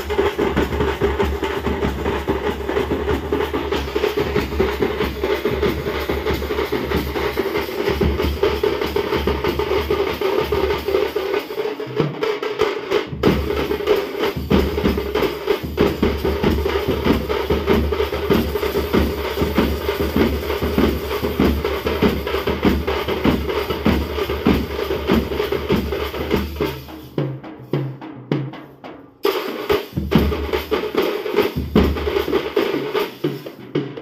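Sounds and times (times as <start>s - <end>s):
drummers beating large drums: 0.0s - 34.0s.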